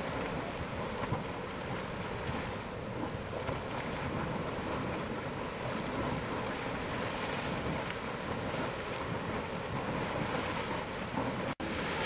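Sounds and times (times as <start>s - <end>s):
geyser water rushing hiss: 0.0s - 12.0s
wind on microphone: 0.0s - 12.0s.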